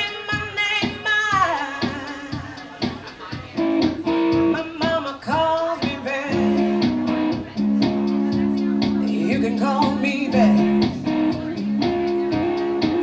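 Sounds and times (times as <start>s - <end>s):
person singing: 0.0s - 13.0s
strummed guitar: 0.0s - 13.0s.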